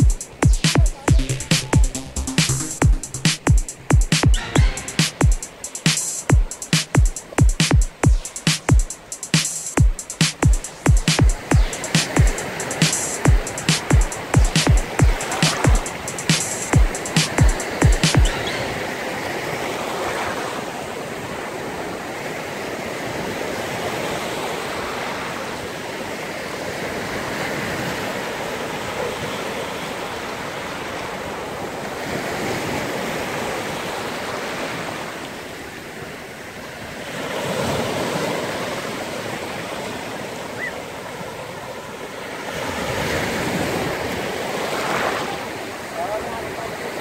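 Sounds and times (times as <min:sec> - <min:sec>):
surf washing onto beach: 0:00.0 - 0:47.0.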